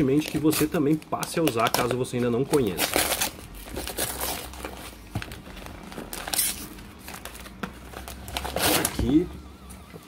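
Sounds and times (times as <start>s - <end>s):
paper wrapping torn and crumpled: 0.1s - 9.1s.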